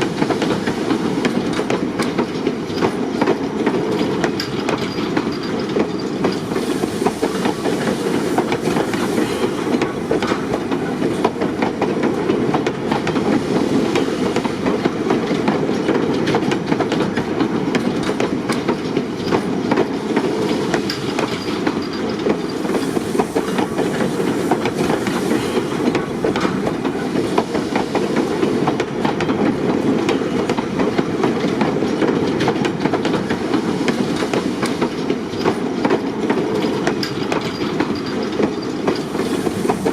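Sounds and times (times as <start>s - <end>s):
train wheels rolling on track: 0.0s - 39.9s.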